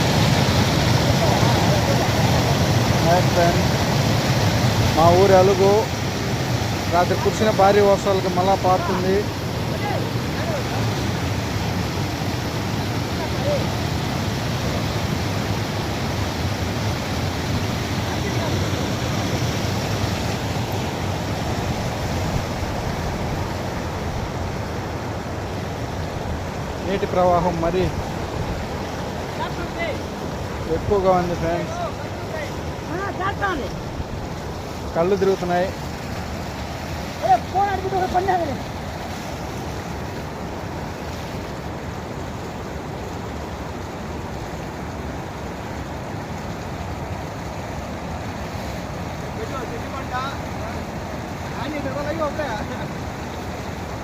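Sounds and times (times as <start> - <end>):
floodwater rushing over weir: 0.0 - 54.0.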